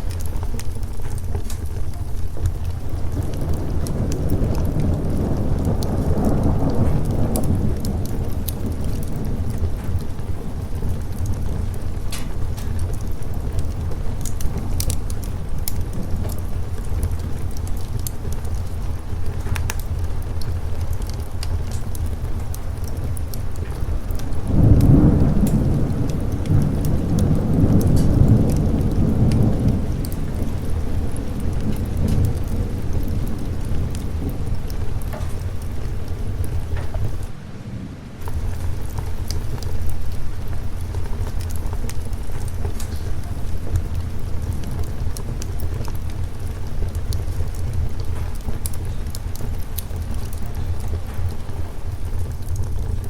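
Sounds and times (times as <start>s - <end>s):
steady rain: 0.0s - 53.0s
thunder rolling: 0.0s - 53.0s
wood fire crackling: 0.0s - 53.0s.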